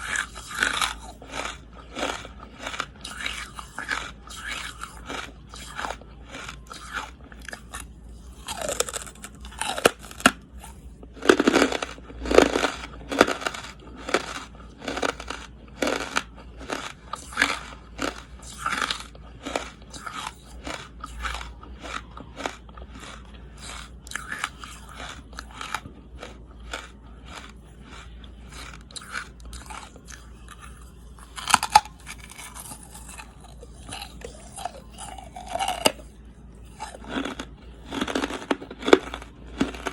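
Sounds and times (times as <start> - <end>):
person chewing crunchy charcoal: 0.0 - 39.9.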